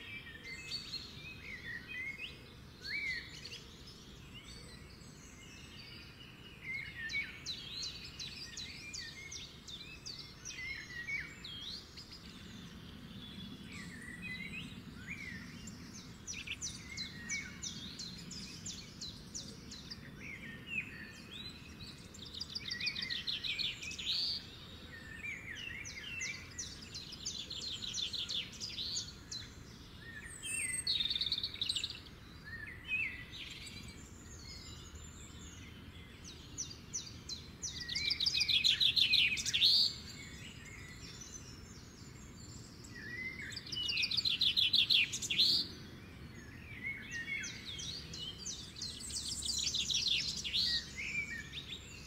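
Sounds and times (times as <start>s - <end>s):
songbirds trilling and chirping: 0.0s - 52.0s.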